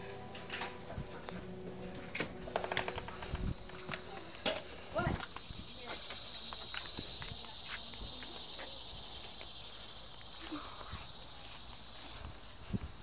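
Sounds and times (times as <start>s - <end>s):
insects chirping chorus: 0.0s - 13.0s.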